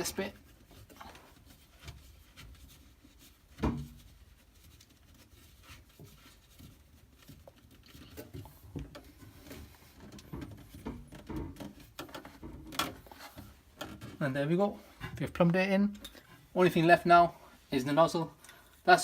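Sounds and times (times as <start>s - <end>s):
faint clicks and rubs: 0.0s - 16.6s.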